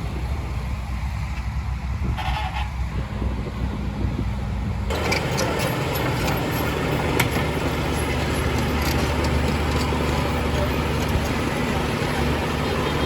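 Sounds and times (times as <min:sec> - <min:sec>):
diesel construction machinery drone: 0:00.0 - 0:13.0.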